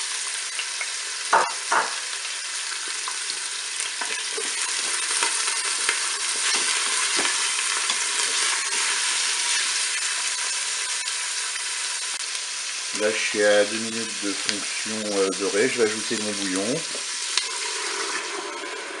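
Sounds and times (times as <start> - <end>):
meat and onions sizzling in oil: 0.0 - 19.0.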